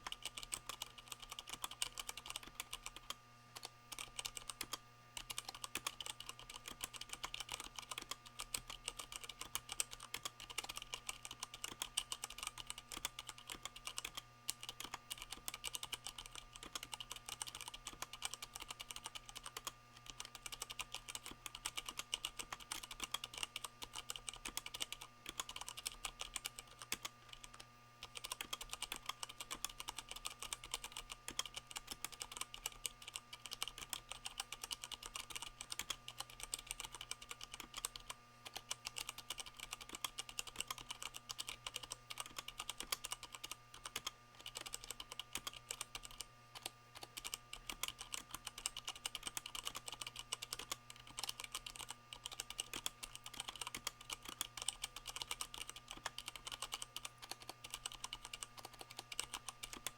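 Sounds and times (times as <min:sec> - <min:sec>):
faint steady hum: 0:00.0 - 0:59.9
mechanical keyboard typing: 0:00.0 - 0:59.9.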